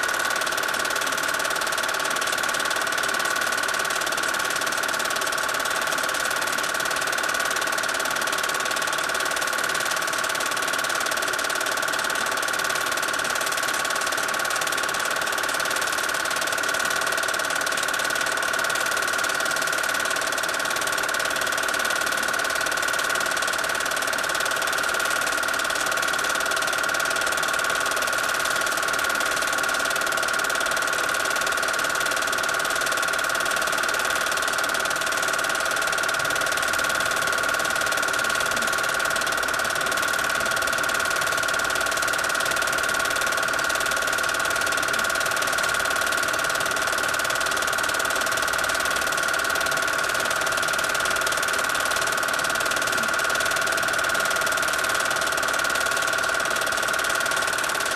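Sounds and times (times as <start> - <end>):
film projector whirring clatter: 0.0 - 57.9.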